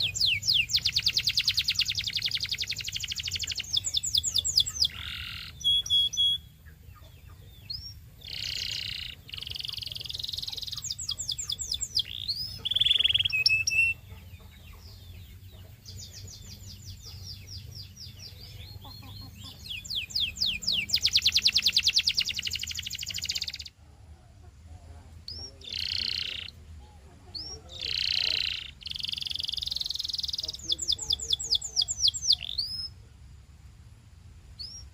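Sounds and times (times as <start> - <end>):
canary singing trills: 0.0 - 33.1, 34.5 - 34.9.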